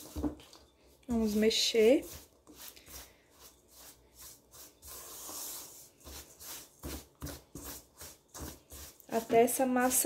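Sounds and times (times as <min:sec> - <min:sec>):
spatula scraping dough in metal bowl: 0:01.1 - 0:10.0.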